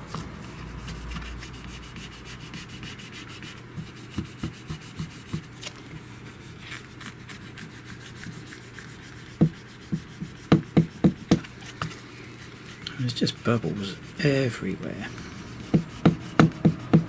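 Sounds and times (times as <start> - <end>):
rubbing on screen protector: 0.1 - 17.0.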